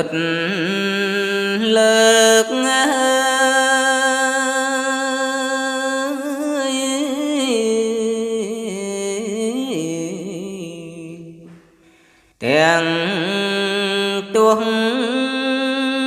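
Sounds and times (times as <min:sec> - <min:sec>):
man chanting: 0:00.0 - 0:11.5, 0:12.4 - 0:16.0.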